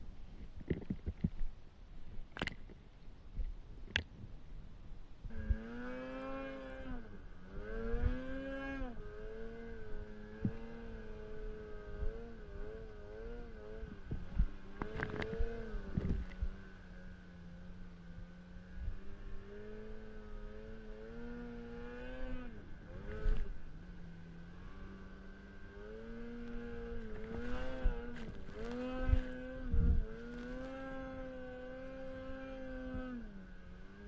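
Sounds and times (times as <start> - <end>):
vehicle engine revving: 5.3 - 34.0.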